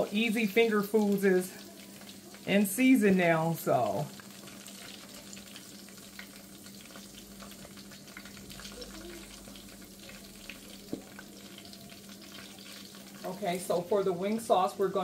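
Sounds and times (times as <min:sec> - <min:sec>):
chicken wings sizzling in oil: 0:00.0 - 0:15.0.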